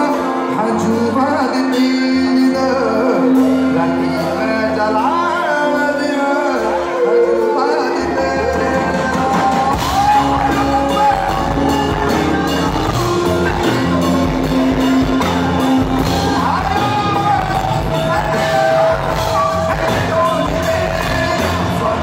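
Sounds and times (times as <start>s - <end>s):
folk band music: 0.0s - 22.0s
person singing: 0.0s - 22.0s.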